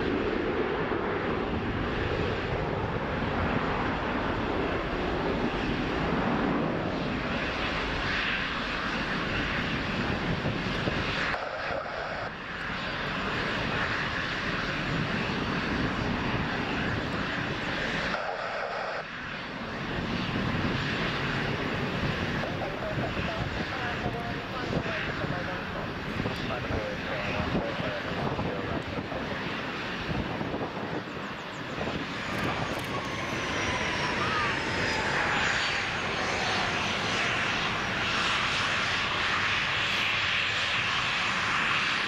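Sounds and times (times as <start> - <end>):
jet engines at takeoff: 0.0 - 42.0.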